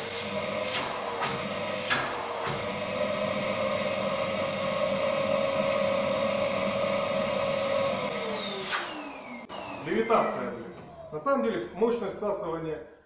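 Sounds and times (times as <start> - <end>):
vacuum cleaner whining: 0.0 - 11.8.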